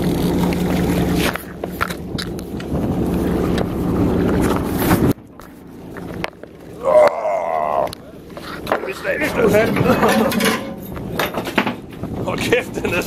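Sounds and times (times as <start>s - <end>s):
boat engine humming: 0.0s - 13.0s
wind: 0.0s - 13.0s.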